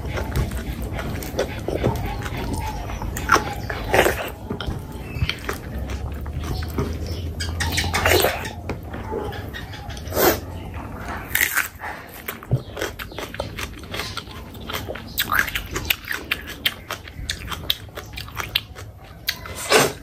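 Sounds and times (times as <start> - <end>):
chewing and mouth noises: 0.0 - 20.0.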